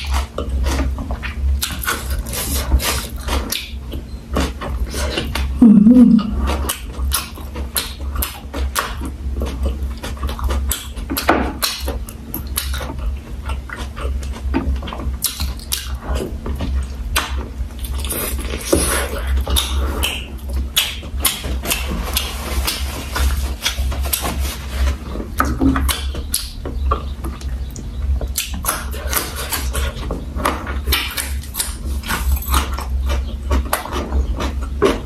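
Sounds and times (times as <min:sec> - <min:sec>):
wet chewing and lip smacking: 0:00.0 - 0:24.3, 0:25.4 - 0:35.0
steady low hum: 0:00.0 - 0:35.0.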